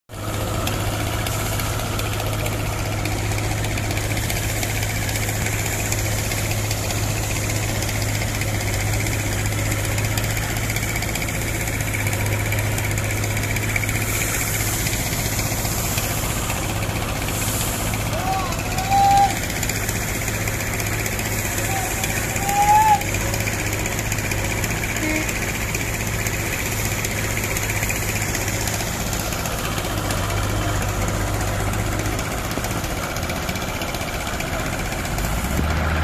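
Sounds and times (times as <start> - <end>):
diesel engine running steadily: 0.1 - 36.0.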